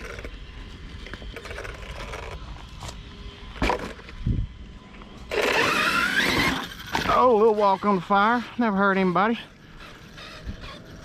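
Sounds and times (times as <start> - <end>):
rc truck motor running: 0.0 - 11.0
scraping over rough ground: 0.0 - 11.0.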